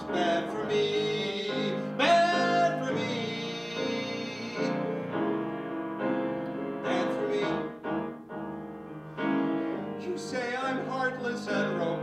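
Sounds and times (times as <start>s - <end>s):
piano playing sustained chords: 0.0s - 12.0s.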